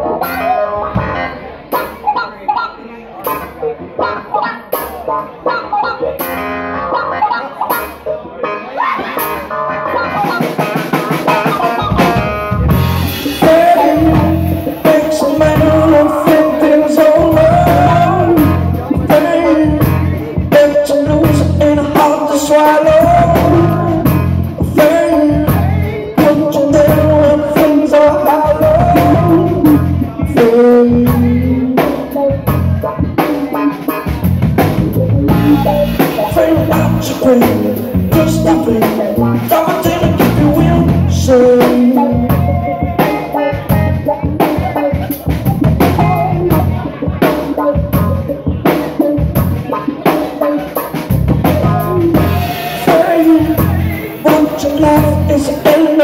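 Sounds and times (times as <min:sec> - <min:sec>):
drum kit: 0:00.0 - 0:02.2, 0:03.2 - 0:56.0
guitar: 0:00.0 - 0:56.0
live rock band playing: 0:00.0 - 0:56.0.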